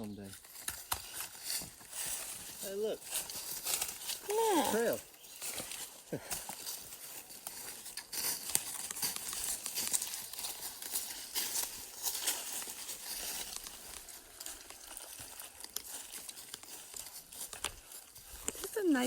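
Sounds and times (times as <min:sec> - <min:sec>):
footsteps crunching dry leaves: 0:00.3 - 0:19.0.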